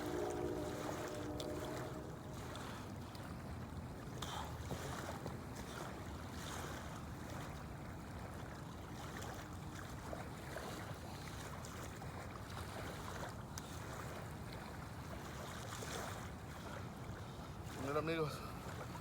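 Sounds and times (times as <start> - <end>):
water lapping and splashing: 0.0 - 19.0.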